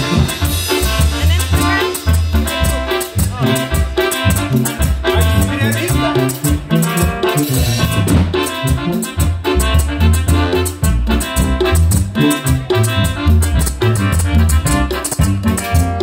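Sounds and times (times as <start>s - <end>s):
bass: 0.0s - 16.0s
drums: 0.0s - 16.0s
electronic keyboard melody: 0.0s - 16.0s.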